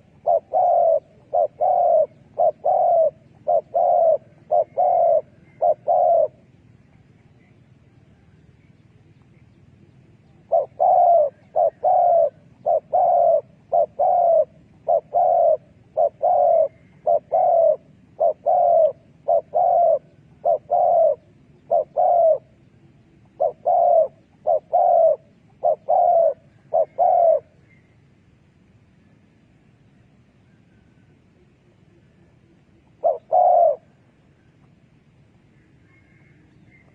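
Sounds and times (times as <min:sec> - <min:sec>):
dove cooing: 0:00.0 - 0:07.1, 0:10.2 - 0:27.8, 0:30.7 - 0:34.8, 0:35.6 - 0:36.9.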